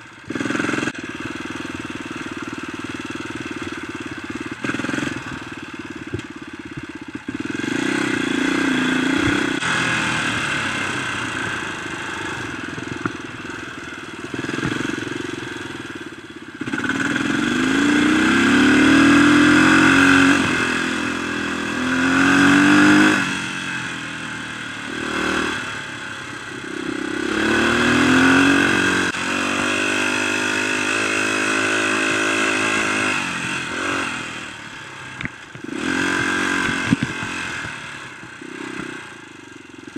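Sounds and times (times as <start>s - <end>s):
dirt bike engine accelerating: 0.0s - 39.9s.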